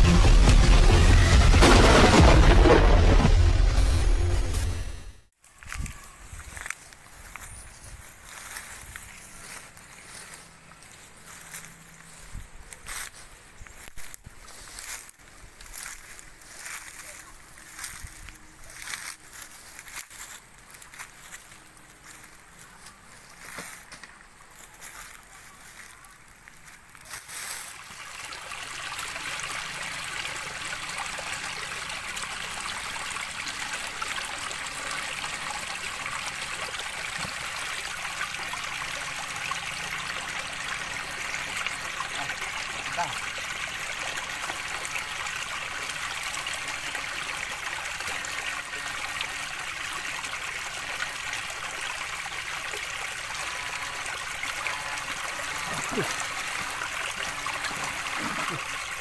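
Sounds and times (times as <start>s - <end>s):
stream trickling over rocks: 5.4s - 59.0s.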